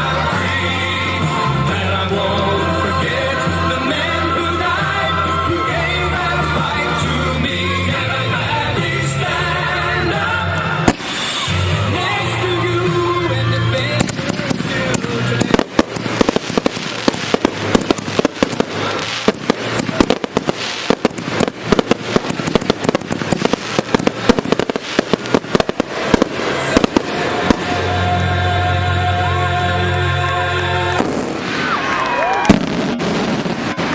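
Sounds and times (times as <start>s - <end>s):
music: 0.0s - 33.9s
firework bangs and crackle: 0.1s - 28.6s, 30.8s - 33.9s.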